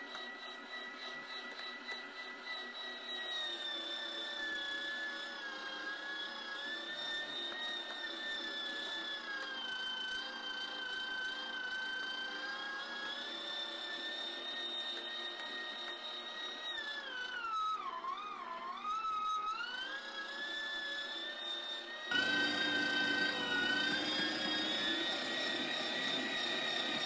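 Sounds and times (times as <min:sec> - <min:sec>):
electric meat grinder whining: 0:00.0 - 0:27.0.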